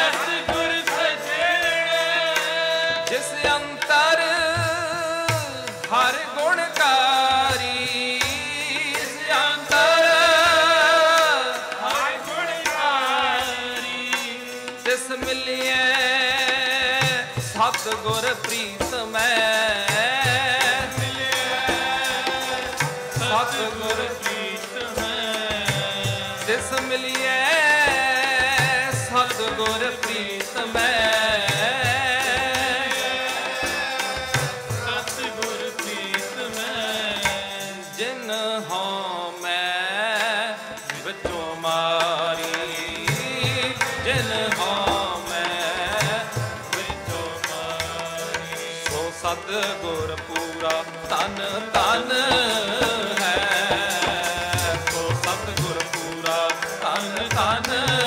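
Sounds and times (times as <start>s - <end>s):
devotional singing: 0.0s - 58.0s
tabla rhythm: 0.0s - 58.0s.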